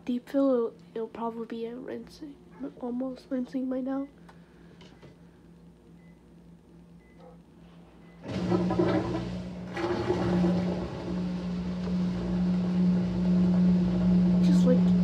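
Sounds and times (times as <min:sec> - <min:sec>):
washing machine humming: 0:02.2 - 0:15.0.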